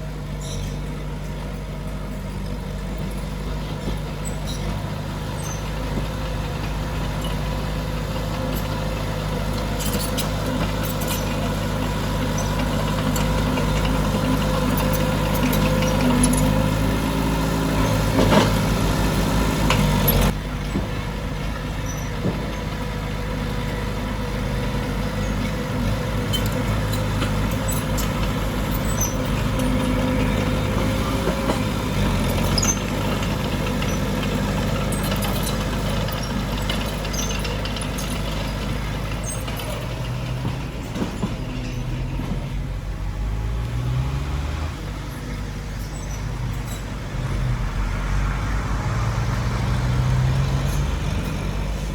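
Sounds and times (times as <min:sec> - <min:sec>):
diesel earthmoving machinery running: 0:00.0 - 0:51.9.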